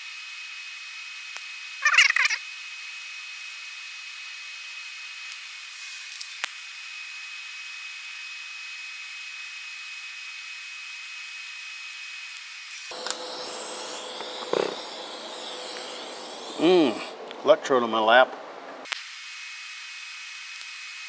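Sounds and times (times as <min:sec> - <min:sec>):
welding arc hissing: 0:00.0 - 0:17.2.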